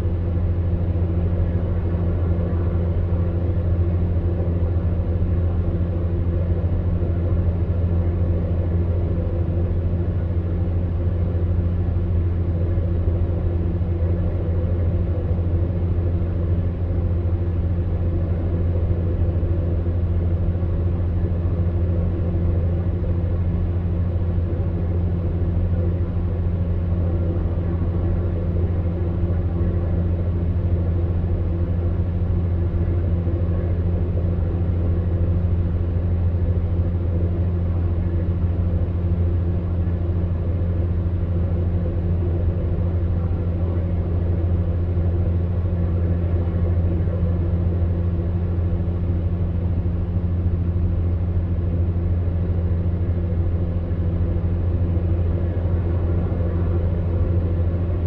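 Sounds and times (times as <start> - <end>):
fan heater humming: 0.0 - 58.0.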